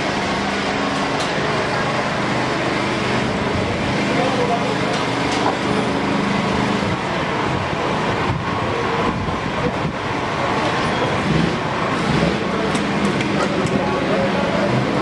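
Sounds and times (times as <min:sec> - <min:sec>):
road traffic noise: 0:00.0 - 0:15.0
street bustle: 0:00.0 - 0:15.0.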